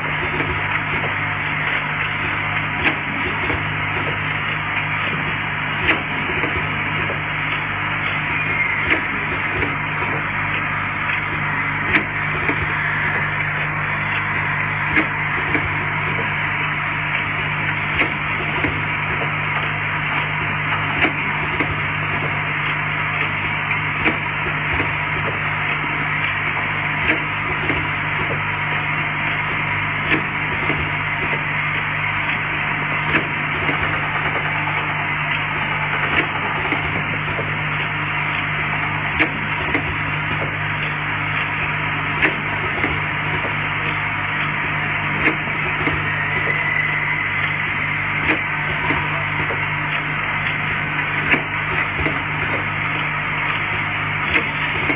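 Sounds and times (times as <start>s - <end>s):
machine humming and clattering: 0.0s - 54.9s
sharp machine clicks: 0.0s - 54.9s.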